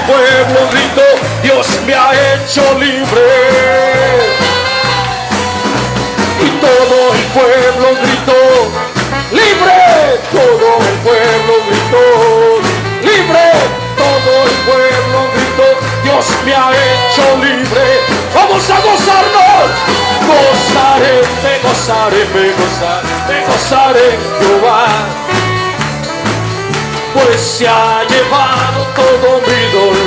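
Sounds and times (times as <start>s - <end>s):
repeating bass line: 0.0s - 30.0s
steady drum beat: 0.0s - 30.0s.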